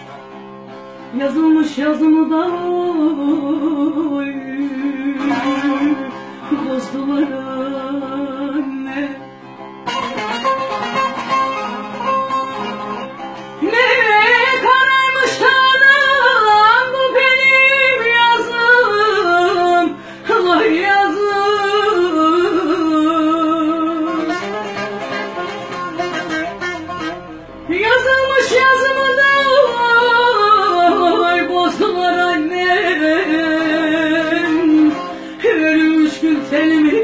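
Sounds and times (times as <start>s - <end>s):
woman singing folk song: 0.0s - 26.2s, 27.6s - 37.0s
strummed long-necked lute: 0.0s - 37.0s.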